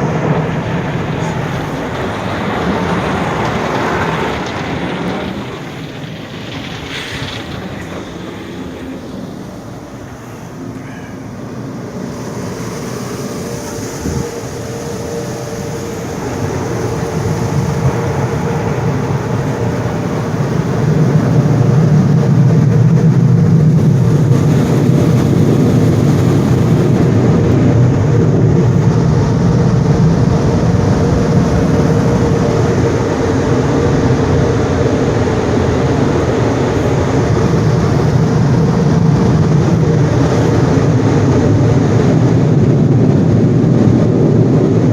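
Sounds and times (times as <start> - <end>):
car wash equipment rushing: 0.0 - 44.9
constant hum: 0.0 - 44.9.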